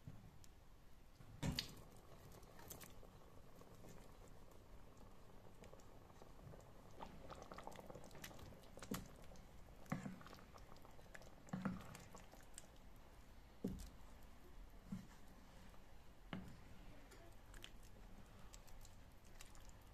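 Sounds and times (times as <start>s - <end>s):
stew squelching while stirred: 1.6s - 15.8s, 16.4s - 19.9s.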